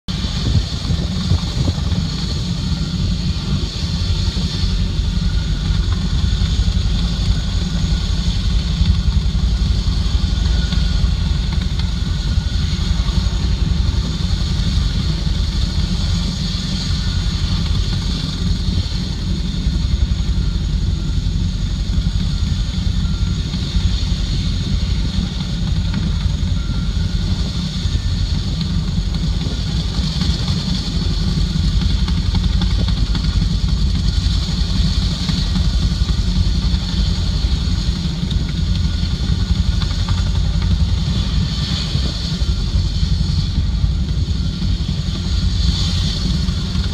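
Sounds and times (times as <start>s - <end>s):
helicopter rotors fluttering: 0.1s - 46.9s.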